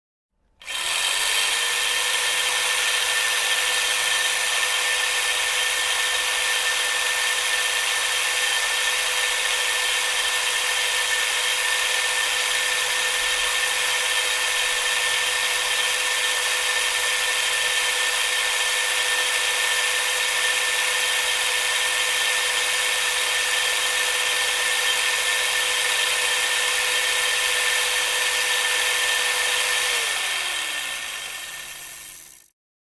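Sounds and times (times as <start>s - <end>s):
electric drill whining: 0.5s - 32.6s.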